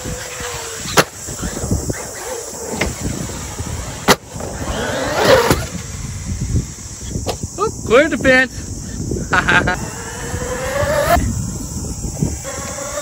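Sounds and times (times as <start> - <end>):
electric motor whining and revving: 0.0 - 7.2, 9.7 - 13.0.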